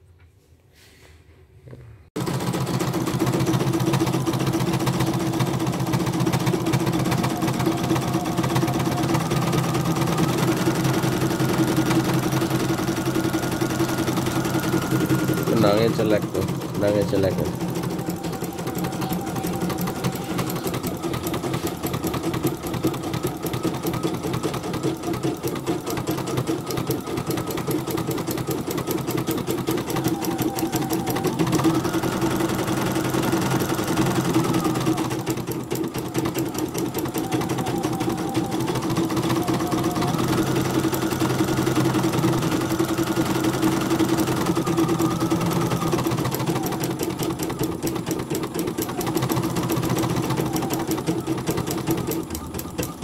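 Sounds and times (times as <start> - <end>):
embroidery machine needle stitching: 2.2 - 53.0.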